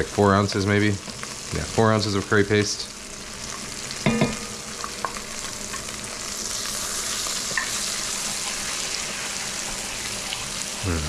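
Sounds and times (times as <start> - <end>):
curry paste sizzling: 0.0 - 11.0.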